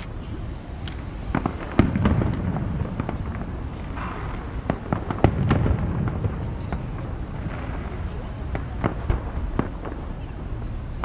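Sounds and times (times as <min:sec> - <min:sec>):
firework cracks and pops: 0:00.8 - 0:11.0
firework booms: 0:01.2 - 0:11.0.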